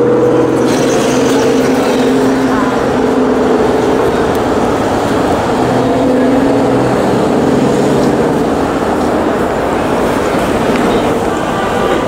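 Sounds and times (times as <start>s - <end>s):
city traffic noise: 0.0s - 12.0s
vehicle engine humming: 0.0s - 12.0s.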